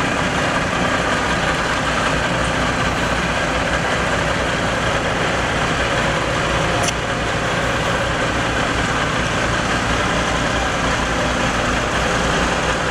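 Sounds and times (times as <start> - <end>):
diesel engine rumbling: 0.0 - 12.9.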